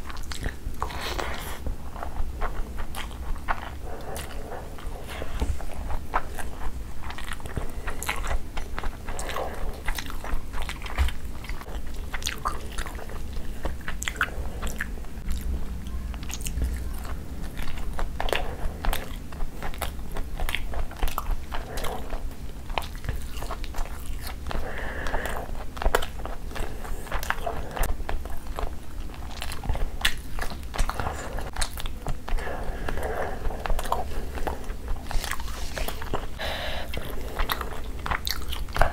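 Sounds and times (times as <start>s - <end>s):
close chewing with mouth clicks: 0.0s - 38.9s.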